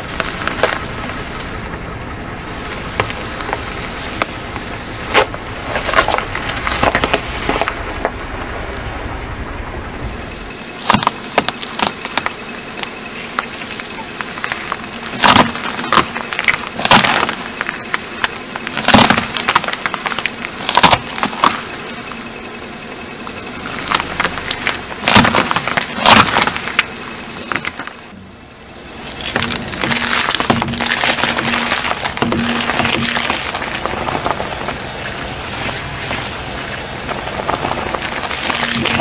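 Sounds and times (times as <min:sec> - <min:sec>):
apple cracking under a tyre: 0:00.0 - 0:01.8, 0:02.8 - 0:08.5, 0:10.7 - 0:28.3, 0:28.9 - 0:39.0
eggshells crackling under a tyre: 0:00.0 - 0:01.8, 0:02.6 - 0:08.3, 0:10.3 - 0:39.0.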